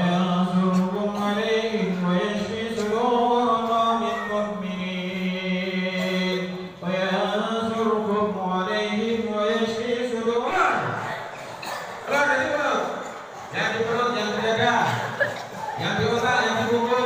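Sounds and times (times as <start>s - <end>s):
person chanting verses: 0.0s - 11.4s, 12.0s - 17.0s.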